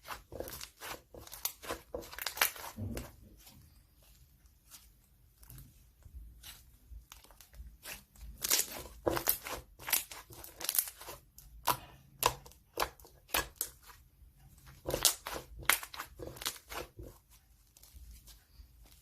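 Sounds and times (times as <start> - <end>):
crinkling and crunching: 0.0 - 19.0.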